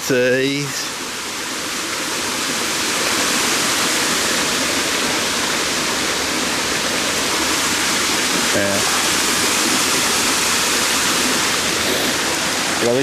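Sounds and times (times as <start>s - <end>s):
waterfall splashing: 0.0s - 13.0s.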